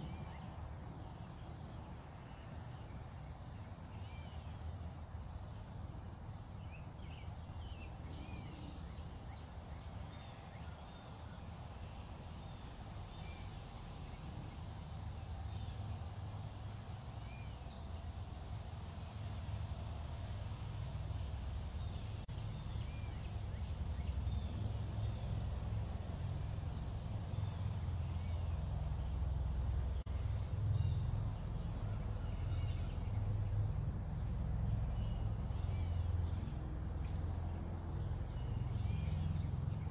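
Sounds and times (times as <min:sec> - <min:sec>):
small birds chirping: 0:00.0 - 0:18.3, 0:20.7 - 0:39.9.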